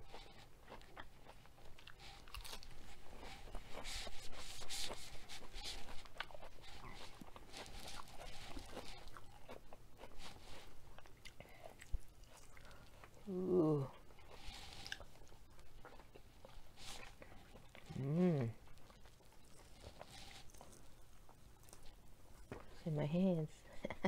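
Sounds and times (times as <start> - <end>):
chewing crisp lettuce: 0.0 - 22.8.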